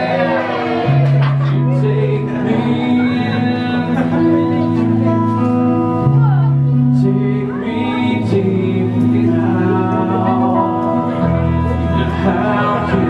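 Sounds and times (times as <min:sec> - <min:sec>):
held chords: 0:00.0 - 0:13.0
person singing: 0:00.0 - 0:13.0.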